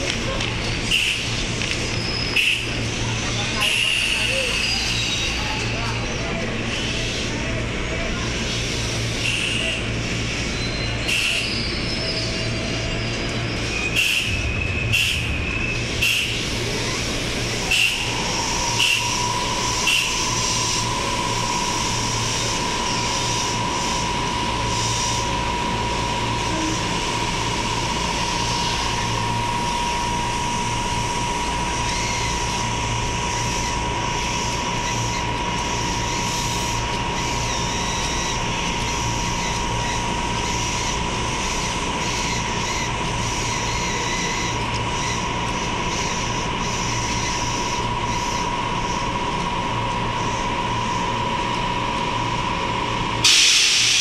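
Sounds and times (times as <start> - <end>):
electric train humming: 0.0 - 54.0
high whine: 0.0 - 54.0.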